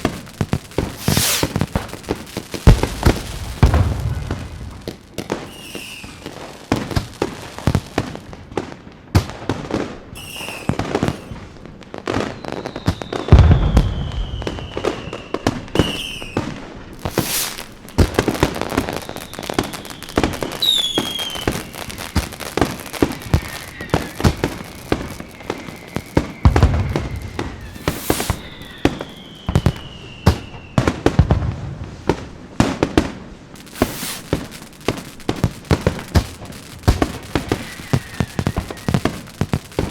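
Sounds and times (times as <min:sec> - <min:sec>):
deep firework booms: 0:00.0 - 0:08.5, 0:10.6 - 0:39.9
falling firework whistles: 0:00.0 - 0:08.8, 0:09.4 - 0:39.9
fireworks popping and crackling: 0:00.0 - 0:39.9.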